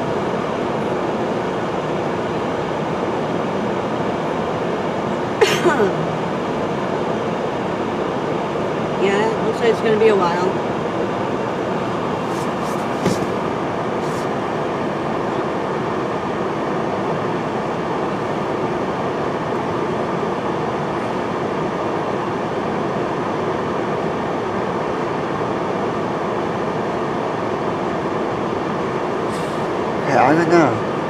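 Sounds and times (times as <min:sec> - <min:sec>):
freight train idling rumble: 0:00.0 - 0:31.0.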